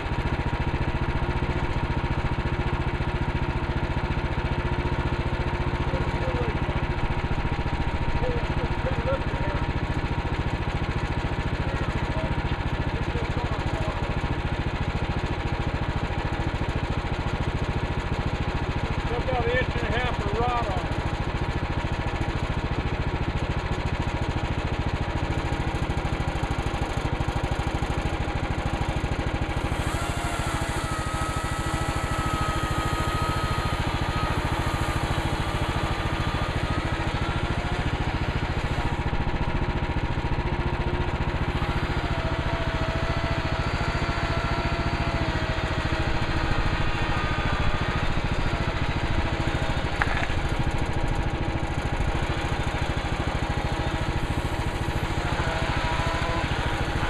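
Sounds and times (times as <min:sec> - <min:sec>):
thin saw whine: 0:00.0 - 0:23.3, 0:25.3 - 0:57.0
bandsaw sawmill engine running: 0:00.0 - 0:57.0.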